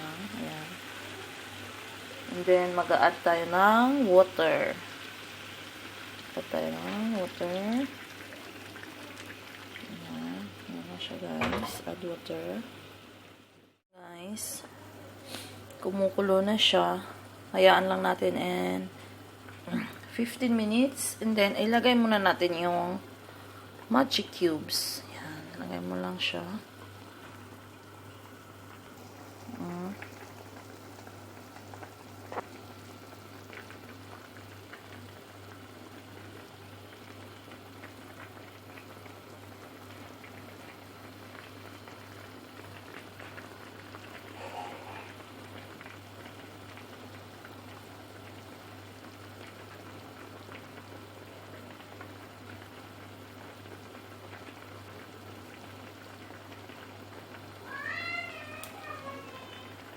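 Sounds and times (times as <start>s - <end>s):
curry bubbling in a pot: 0.0s - 13.6s, 14.7s - 59.9s.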